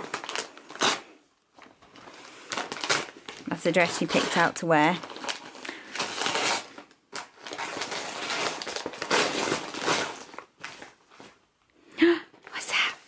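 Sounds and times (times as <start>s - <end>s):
gift wrapping rustling: 0.0s - 11.4s.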